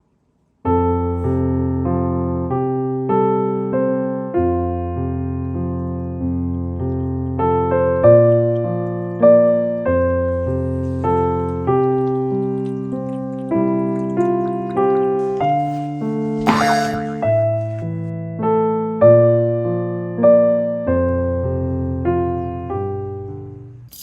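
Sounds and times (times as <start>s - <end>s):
gentle piano music: 0.8s - 23.7s.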